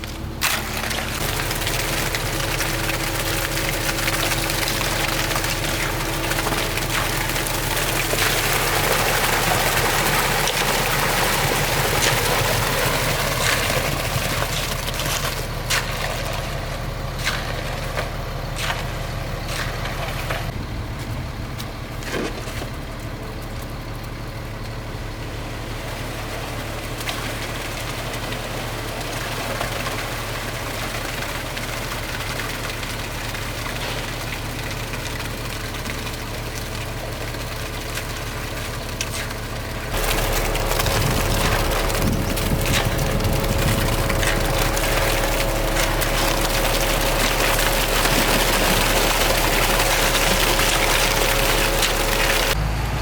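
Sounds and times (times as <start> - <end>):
heavy engine running: 0.0 - 53.0.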